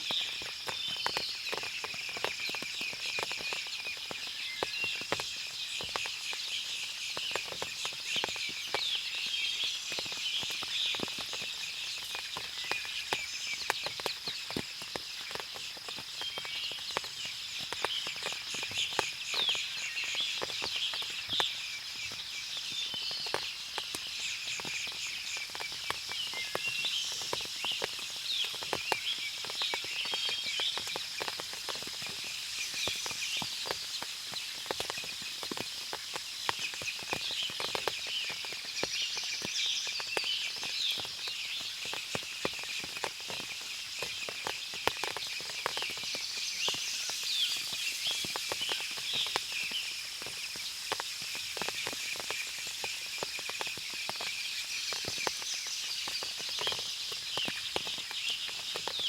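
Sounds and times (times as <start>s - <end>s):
birds chirping: 0.0s - 59.0s
insect drone: 0.0s - 59.0s
water dripping from trees: 0.0s - 59.0s.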